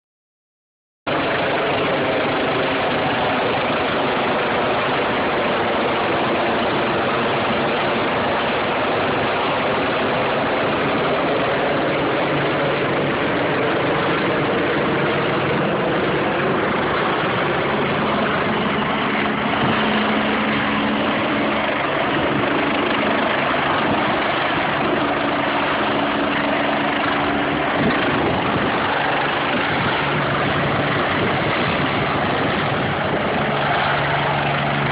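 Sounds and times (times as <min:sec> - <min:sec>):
helicopter engine and rotor drone: 0:01.1 - 0:34.9.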